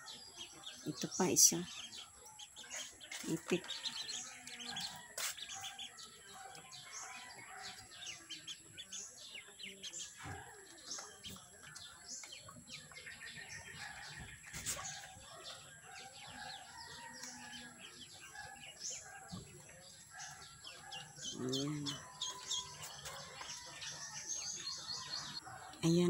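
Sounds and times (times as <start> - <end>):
chicks peeping and chirping: 0.0 - 26.0.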